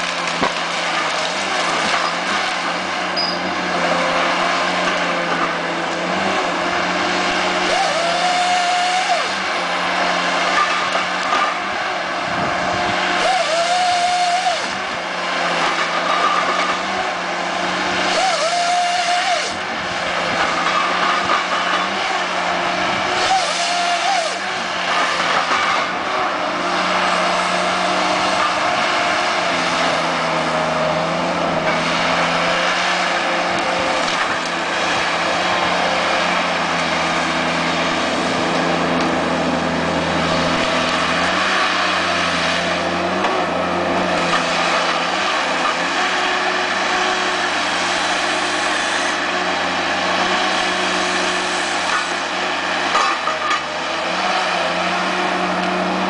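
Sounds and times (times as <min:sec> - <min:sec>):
harvester diesel engine and hydraulics: 0:00.0 - 0:56.0.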